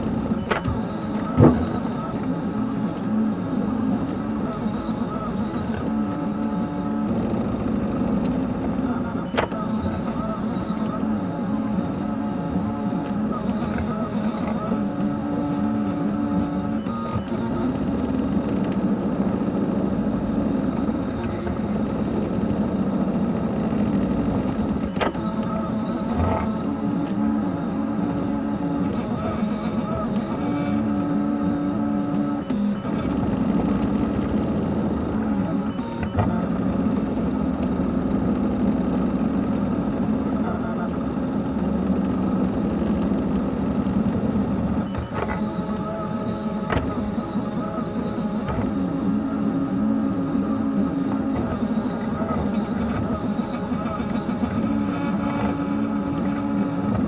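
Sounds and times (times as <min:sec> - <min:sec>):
vacuum cleaner motor running: 0:00.0 - 0:57.0.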